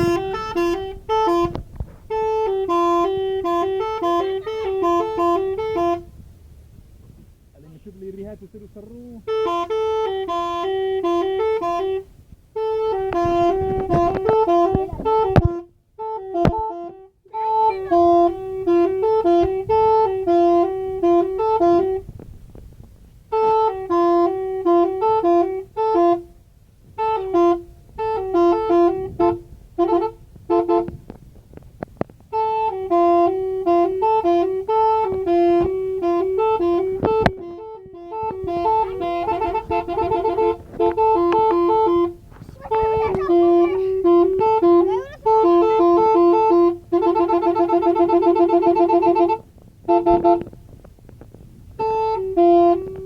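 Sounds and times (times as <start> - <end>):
musical air horns playing jingle: 0.0 - 6.8, 9.2 - 22.2, 23.3 - 31.1, 32.3 - 50.6, 51.7 - 53.0.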